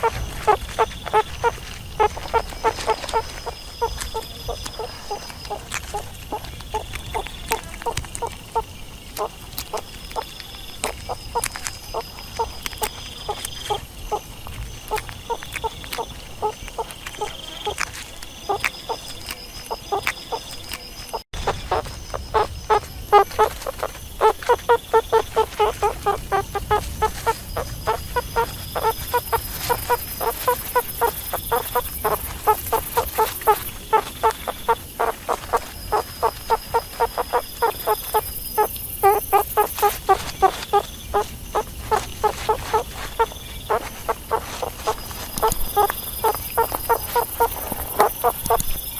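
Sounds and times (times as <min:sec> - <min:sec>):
meerkats chirping: 0:00.0 - 0:48.9.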